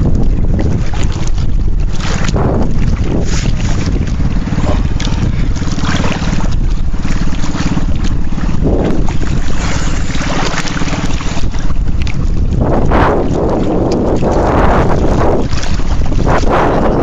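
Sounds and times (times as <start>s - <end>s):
boat engine running: 0.0s - 17.0s
wind buffeting microphone: 0.0s - 17.0s.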